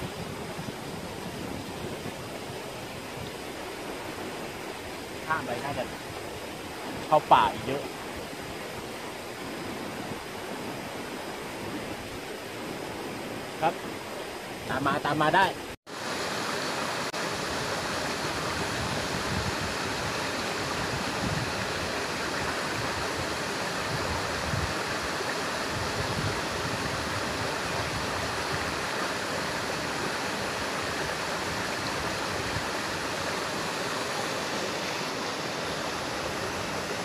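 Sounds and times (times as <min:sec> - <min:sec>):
stream flowing over rocks: 0:00.0 - 0:37.0.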